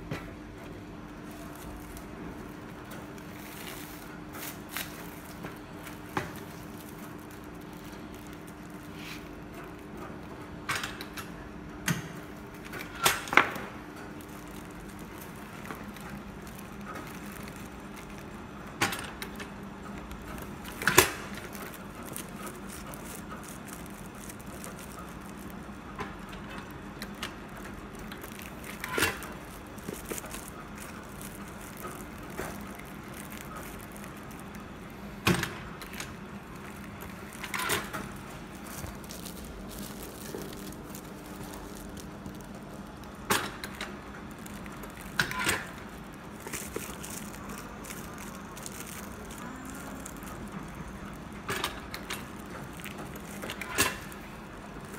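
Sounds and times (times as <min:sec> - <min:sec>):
low steady hum: 0:00.0 - 0:54.9.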